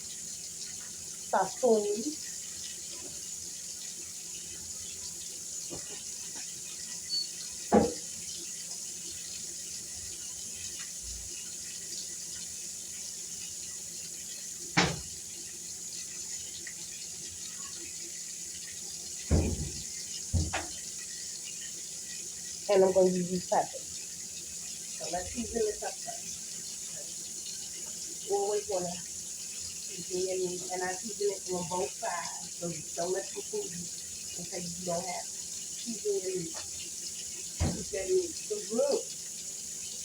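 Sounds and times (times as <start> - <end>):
kitchen background hiss: 0.0 - 40.0.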